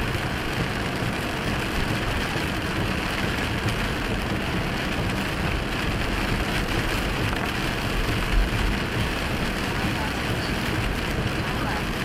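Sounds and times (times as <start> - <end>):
rain on car: 0.0 - 12.0
tyres hissing on wet road: 0.0 - 12.0.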